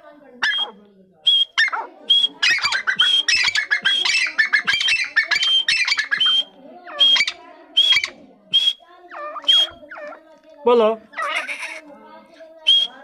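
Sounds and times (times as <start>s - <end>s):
francolins calling: 0.0s - 10.2s, 11.0s - 11.9s, 12.6s - 13.0s.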